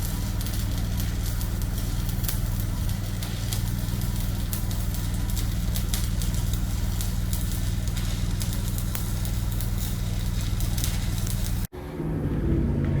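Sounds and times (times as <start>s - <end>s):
welding arc crackling: 0.0s - 11.7s
engine droning: 0.0s - 13.0s.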